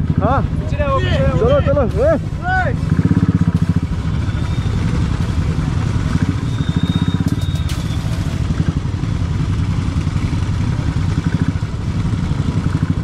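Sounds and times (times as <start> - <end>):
other motorcycles running: 0.0 - 13.0
motorcycle engine at low revs: 1.2 - 13.0.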